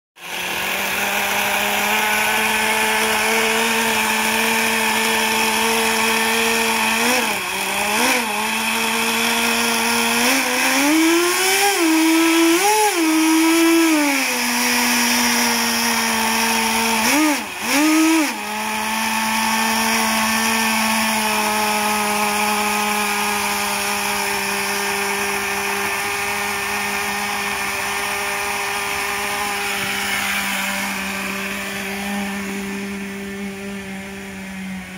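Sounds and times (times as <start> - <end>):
model boat engine revving: 0.2 - 34.9.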